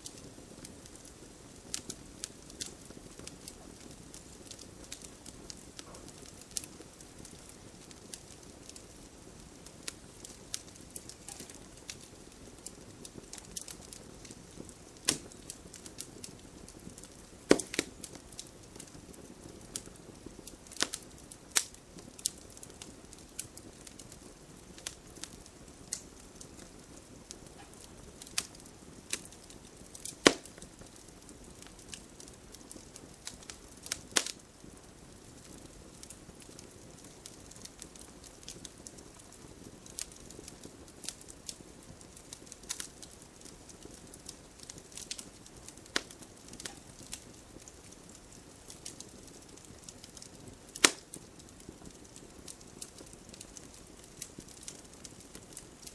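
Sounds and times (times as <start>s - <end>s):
low steady hiss: 0.0s - 55.9s
sharp fire pops: 0.0s - 55.9s
wood fire crackling: 0.0s - 55.9s.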